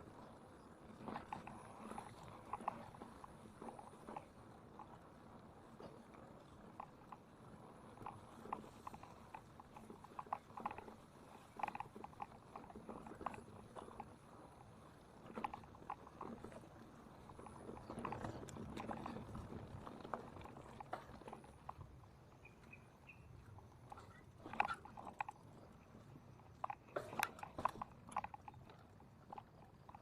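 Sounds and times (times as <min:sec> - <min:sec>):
faint clattering knocks and clicks: 0:00.2 - 0:30.0.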